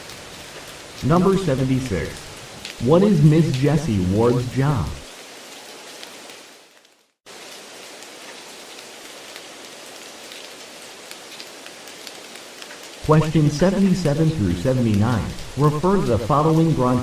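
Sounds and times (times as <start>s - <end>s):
rain-like hiss with patter: 0.0s - 17.0s.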